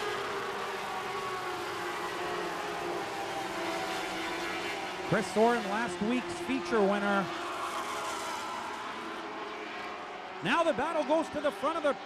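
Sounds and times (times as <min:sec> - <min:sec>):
race car engines droning: 0:00.0 - 0:12.0
track noise: 0:00.1 - 0:12.0.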